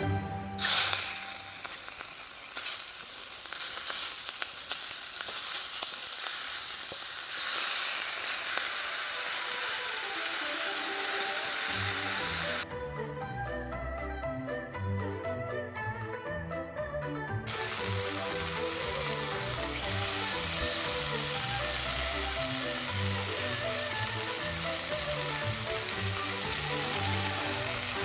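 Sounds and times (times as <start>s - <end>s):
background music with strings: 0.0s - 2.0s, 7.4s - 28.0s
food sizzling in a pan: 0.6s - 12.6s, 17.5s - 28.0s.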